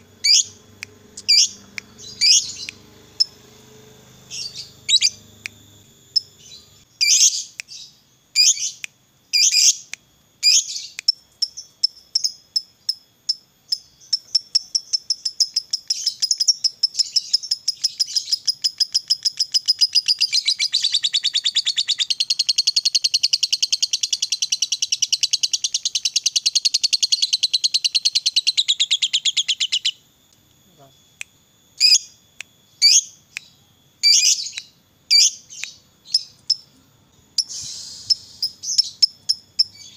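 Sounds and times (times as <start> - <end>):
lovebird chirping and trilling: 0.2 - 30.0, 31.8 - 36.7, 37.3 - 39.9.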